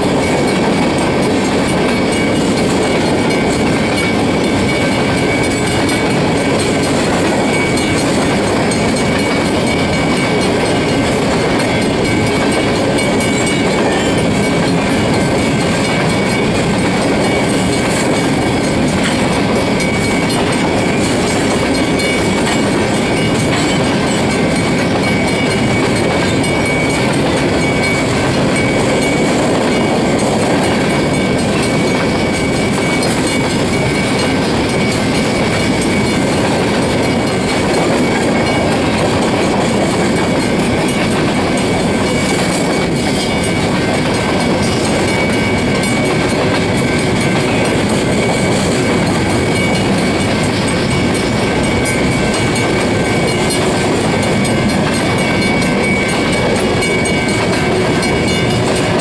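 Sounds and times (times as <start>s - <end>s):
steel wheels clattering over rail joints: 0.0s - 59.0s.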